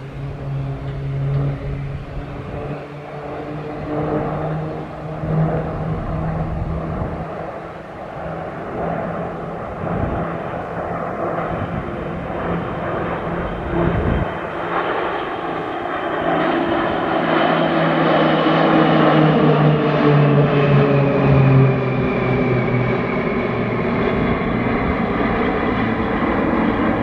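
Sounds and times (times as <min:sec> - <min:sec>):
propeller aircraft droning overhead: 0:00.0 - 0:27.0.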